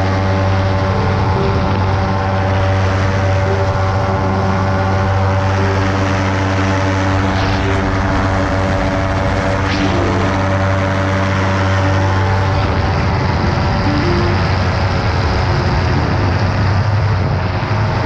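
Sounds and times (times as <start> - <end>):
aircraft propeller engine droning: 0.0 - 18.0
wind rushing over microphone: 0.0 - 18.0.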